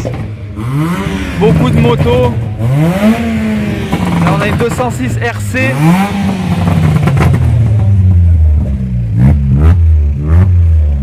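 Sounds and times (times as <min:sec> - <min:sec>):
car engine idling: 0:00.0 - 0:11.0
engine throttle blips: 0:00.0 - 0:11.0.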